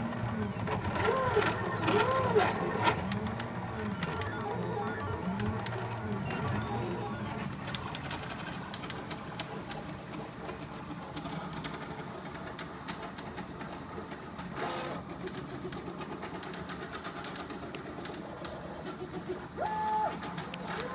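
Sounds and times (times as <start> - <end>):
sharp printer clicks: 0.0 - 20.9
stepper motors whirring: 0.0 - 20.9.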